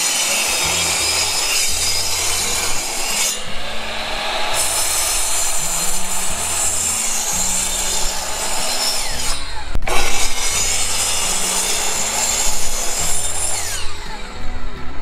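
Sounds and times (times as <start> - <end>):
miter saw cutting wood: 0.0 - 15.0.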